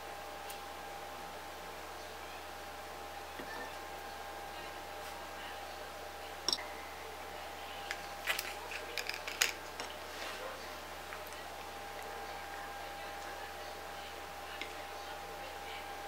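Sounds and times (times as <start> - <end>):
faint hum with thin tone: 0.0 - 16.0.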